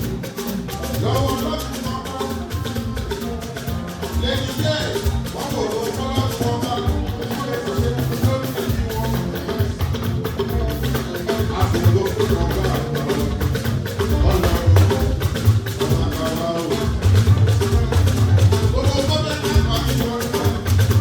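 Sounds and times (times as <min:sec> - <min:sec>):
band music with drums: 0:00.0 - 0:21.0.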